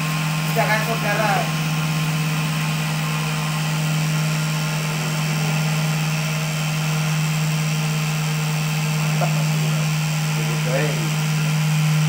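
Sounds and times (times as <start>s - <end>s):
cotton candy machine motor humming: 0.0s - 12.0s.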